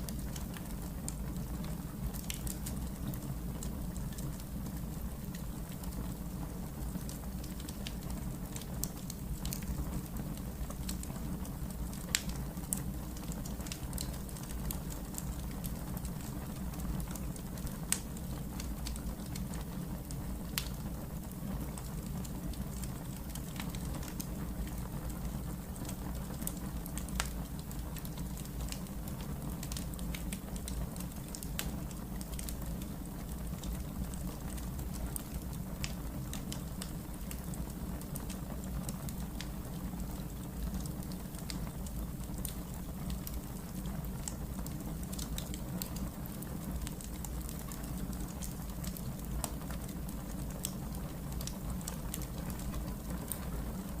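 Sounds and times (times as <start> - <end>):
firewood crackling and popping: 0.0 - 54.0.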